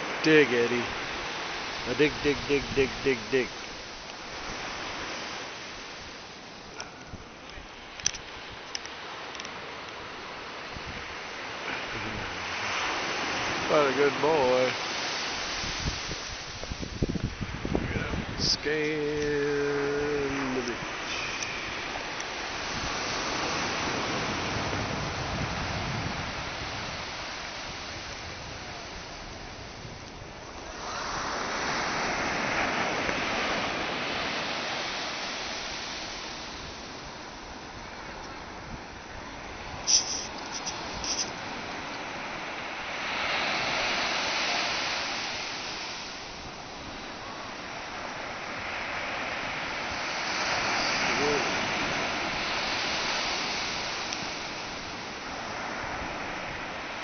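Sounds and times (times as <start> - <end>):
wave breaking on beach: 0.0 - 57.0.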